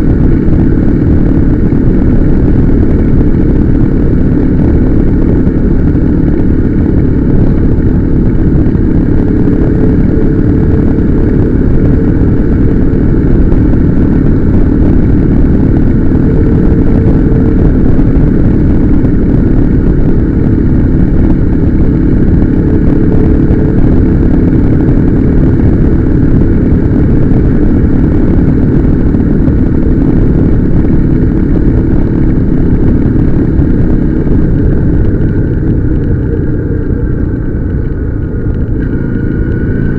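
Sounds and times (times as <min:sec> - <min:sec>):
motorcycle engine drone: 0:00.0 - 0:39.9
wind and road noise: 0:00.0 - 0:39.9.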